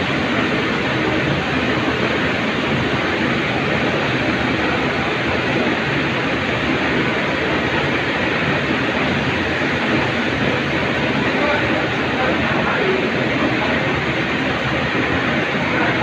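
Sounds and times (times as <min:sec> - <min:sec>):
factory rumble and hiss: 0:00.0 - 0:16.0.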